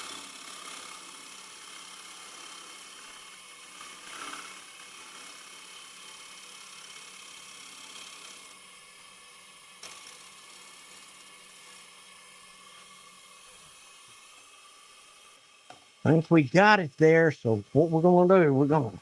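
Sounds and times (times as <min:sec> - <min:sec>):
wood lathe hissing: 0:00.0 - 0:19.0.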